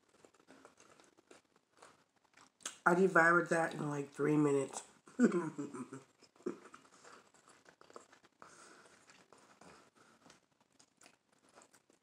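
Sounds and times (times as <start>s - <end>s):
soft chewing: 0.0s - 2.8s, 4.5s - 12.0s.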